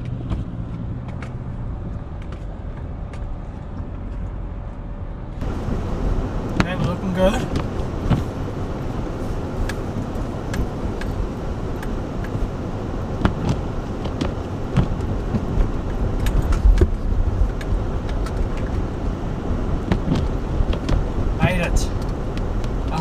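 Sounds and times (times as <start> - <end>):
car rumbling over snow: 0.0 - 23.0.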